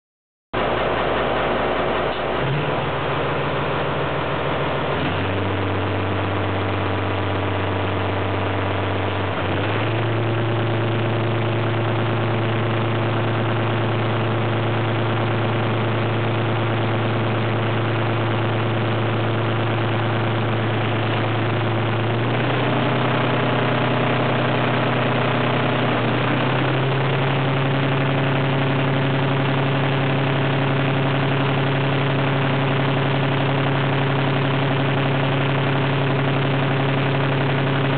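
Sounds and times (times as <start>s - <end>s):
diesel railcar engine accelerating: 0.6s - 37.9s.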